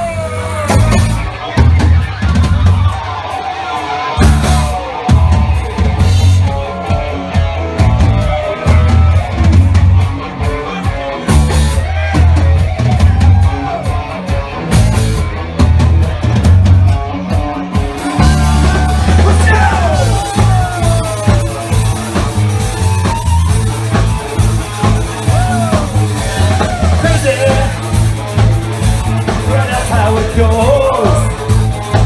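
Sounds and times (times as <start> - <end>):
rock band playing: 0.0 - 32.0.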